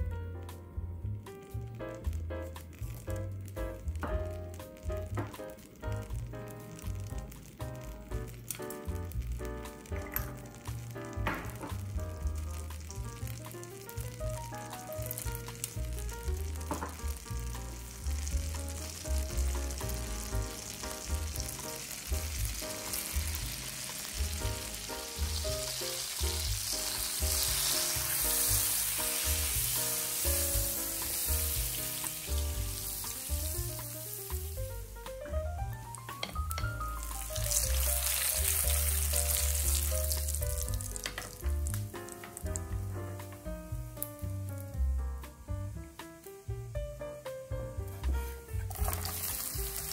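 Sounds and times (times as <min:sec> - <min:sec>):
background music: 0:00.0 - 0:49.9
butter sizzling in a pan: 0:01.1 - 0:45.8, 0:47.8 - 0:49.9.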